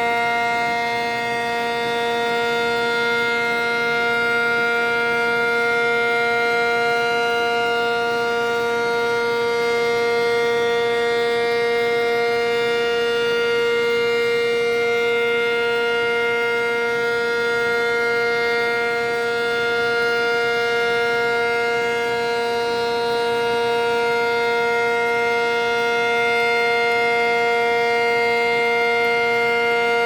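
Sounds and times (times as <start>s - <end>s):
air-raid siren steady tone: 0.0s - 30.0s.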